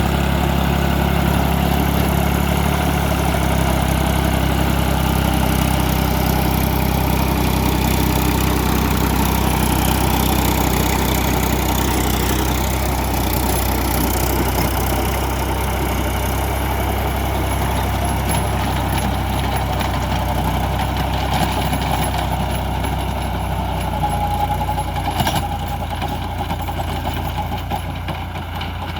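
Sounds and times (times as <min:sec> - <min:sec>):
tractor engine humming: 0:00.0 - 0:28.9.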